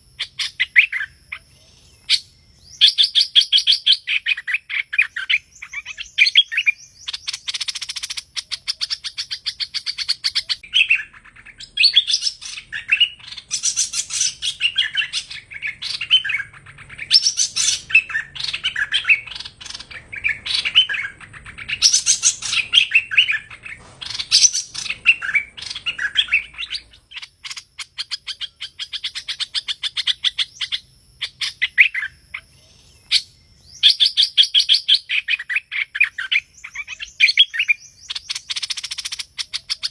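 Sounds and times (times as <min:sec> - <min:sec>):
bulbul chirping and trilling: 0:00.1 - 0:39.9.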